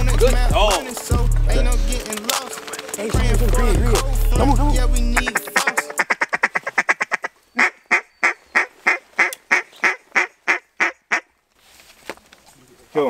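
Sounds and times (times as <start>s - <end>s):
duck quacking: 0.0s - 11.3s.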